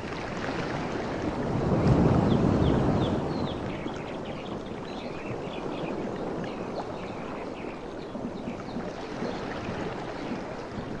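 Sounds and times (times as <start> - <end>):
ocean waves washing on beach: 0.0 - 11.0.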